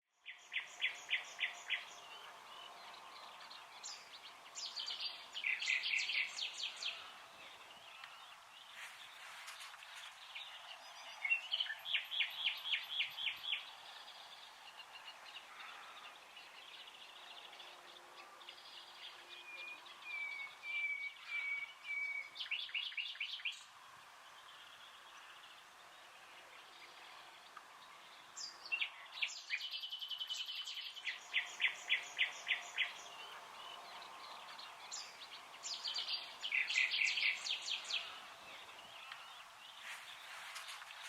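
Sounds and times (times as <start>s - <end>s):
faint background hiss: 0.1s - 41.0s
songbirds singing: 0.1s - 41.0s.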